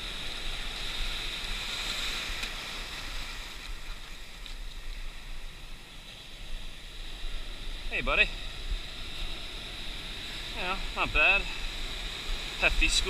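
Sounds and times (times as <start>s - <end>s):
surf washing around rock: 0.0s - 13.0s.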